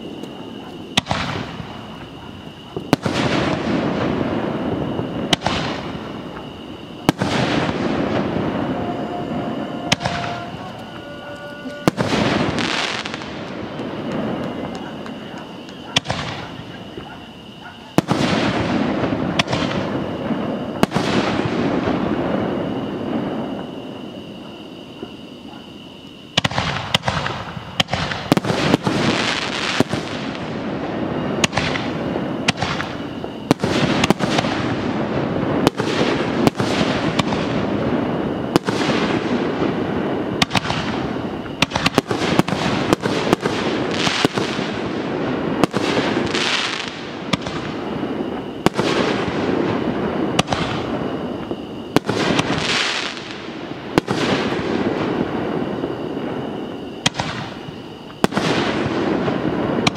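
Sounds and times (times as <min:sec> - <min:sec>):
firework bangs: 0:00.0 - 0:59.9
firework crackling: 0:00.0 - 0:59.9.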